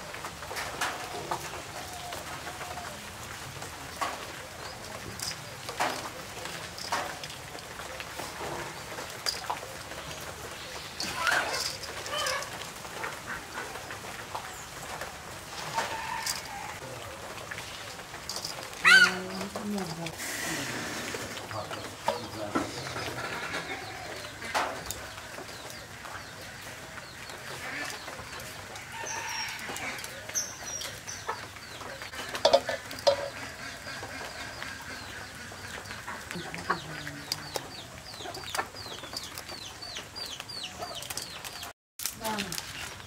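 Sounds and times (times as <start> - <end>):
chickens clucking: 4.0 - 41.7.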